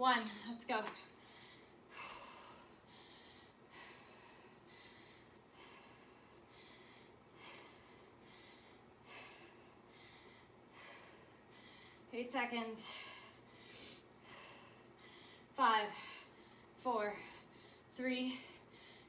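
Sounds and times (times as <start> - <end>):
woman breathing with exertion: 1.2 - 12.1, 12.8 - 19.0.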